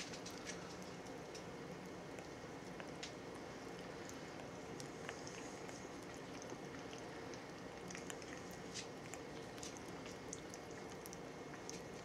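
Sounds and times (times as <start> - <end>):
parrot beak nibbling banana: 0.0 - 12.0.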